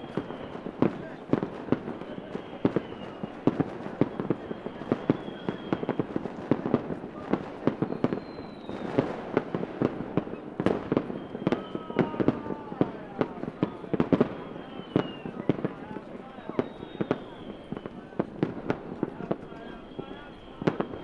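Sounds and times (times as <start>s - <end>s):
fireworks bangs and pops: 0.0s - 21.0s
fireworks crackle: 0.0s - 21.0s
high thin firework whistles: 0.0s - 21.0s.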